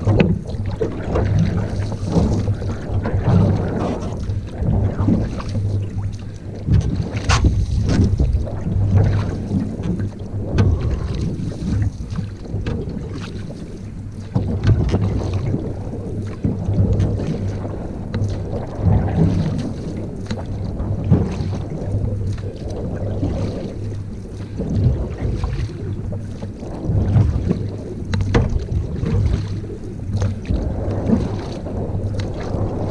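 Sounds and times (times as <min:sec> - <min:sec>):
water splashing: 0:00.0 - 0:32.9
wind rumbling on microphone: 0:00.0 - 0:32.9.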